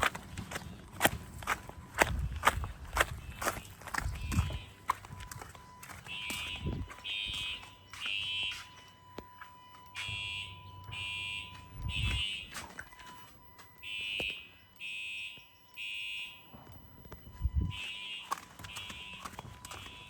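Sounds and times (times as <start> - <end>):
fire alarm beeping: 0.0 - 20.0
faint steady tone: 3.2 - 20.0.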